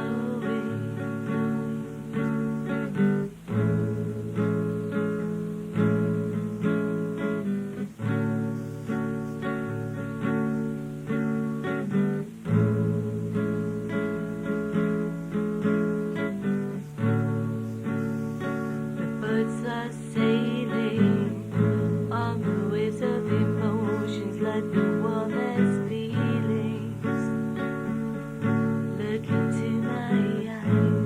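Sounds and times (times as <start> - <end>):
acoustic guitar strumming and plucking: 0.0 - 31.0.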